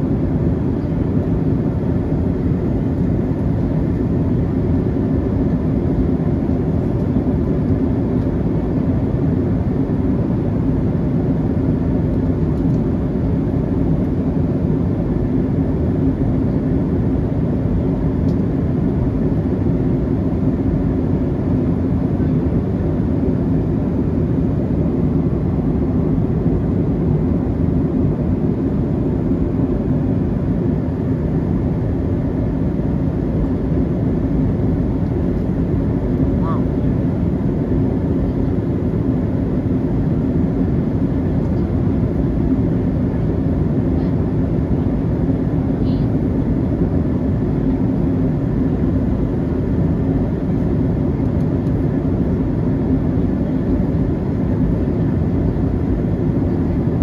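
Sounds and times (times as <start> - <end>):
airplane cabin roar: 0.0 - 57.0.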